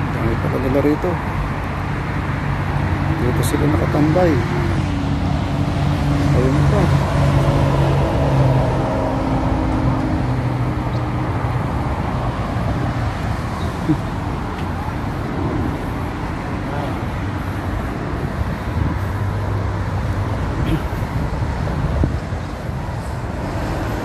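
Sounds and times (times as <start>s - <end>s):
heavy vehicle engine hum: 0.0s - 24.0s
road traffic: 0.0s - 24.0s.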